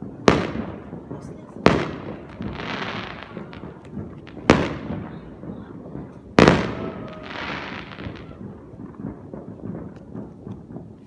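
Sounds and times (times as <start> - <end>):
fireworks bangs with echo: 0.0 - 11.0
fireworks crackling hiss: 0.0 - 11.0.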